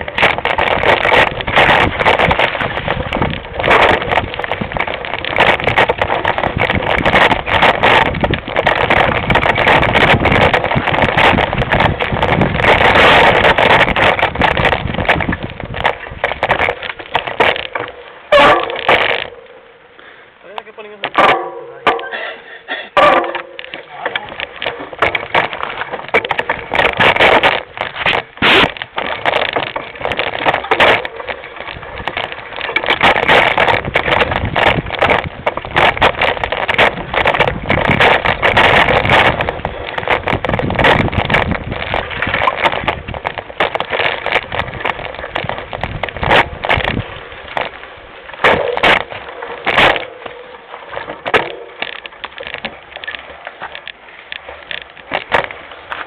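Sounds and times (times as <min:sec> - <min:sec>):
mountain bike rattling on dirt trail: 0:00.0 - 0:56.0.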